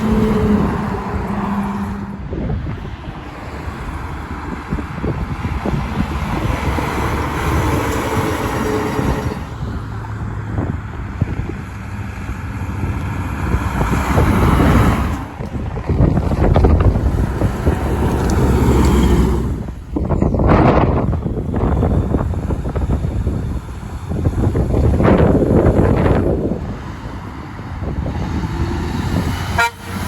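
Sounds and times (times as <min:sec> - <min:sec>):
vehicle engine rumble: 0:00.0 - 0:30.0
wind buffeting microphone: 0:00.0 - 0:30.0.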